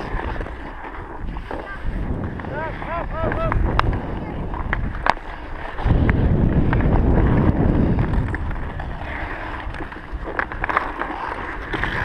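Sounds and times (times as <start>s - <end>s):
ice skates scraping on ice: 0.0s - 12.0s
wind buffeting microphone: 0.0s - 12.0s.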